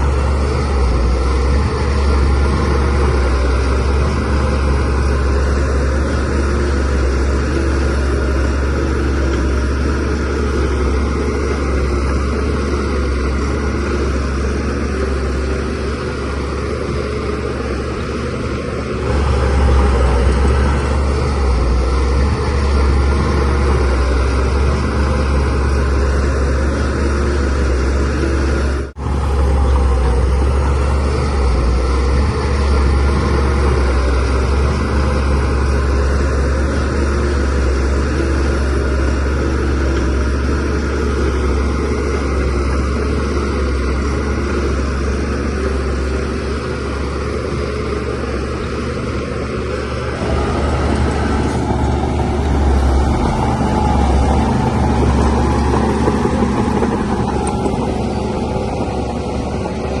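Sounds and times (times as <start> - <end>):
bulldozer diesel engine droning: 0.0 - 60.0.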